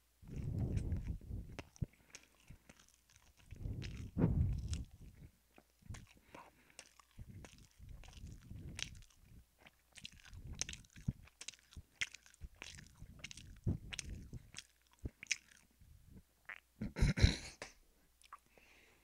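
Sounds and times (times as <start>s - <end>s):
person chewing food: 0.0s - 15.8s, 18.2s - 18.7s
mouth clicks and smacks: 0.2s - 18.6s.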